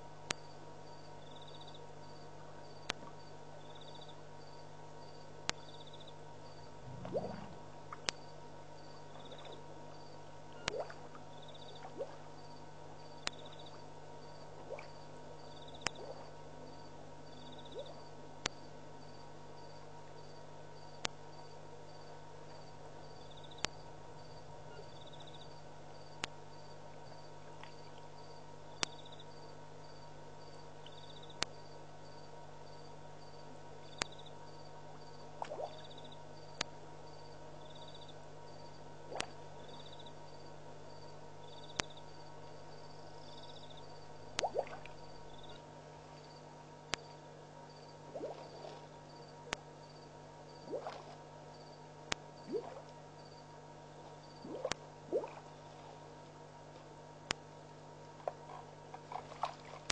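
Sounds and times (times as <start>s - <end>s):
faint steady pulsing: 0.0s - 59.9s
steady low hum: 0.0s - 59.9s
high cricket-like chirp: 0.3s - 45.6s, 46.2s - 53.5s, 54.2s - 54.7s.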